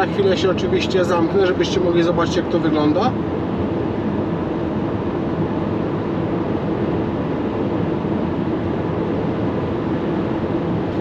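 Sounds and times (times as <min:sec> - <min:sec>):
road and wind noise in van cabin: 0:00.0 - 0:11.0.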